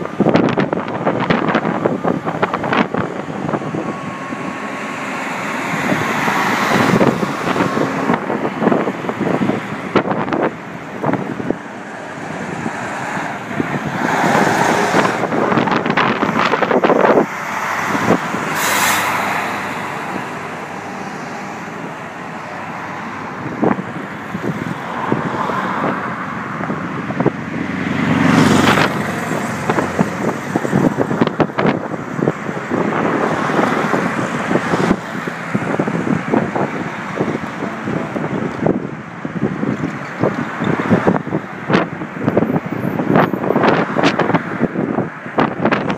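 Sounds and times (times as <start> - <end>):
cars driving by: 0.0 - 45.9
trucks driving past: 0.0 - 45.9.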